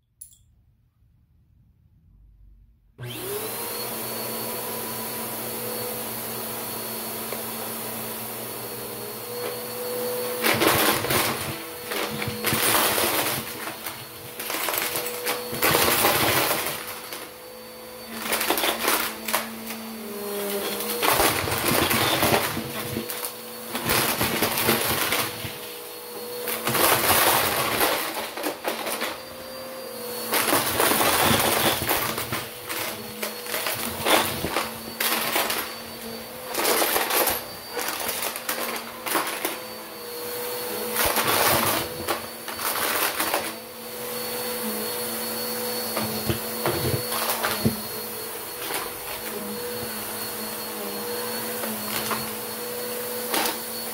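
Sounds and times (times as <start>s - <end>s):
vacuum cleaner motor hum: 3.0s - 53.9s.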